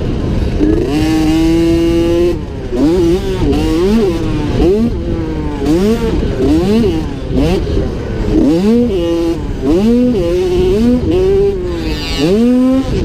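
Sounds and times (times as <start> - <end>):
two-stroke motorbike engine revving: 0.0 - 13.0.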